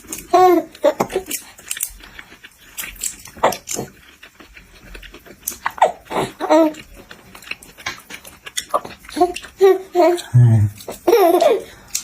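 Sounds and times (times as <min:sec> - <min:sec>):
mouth clicking and eating noises: 0:00.0 - 0:12.0.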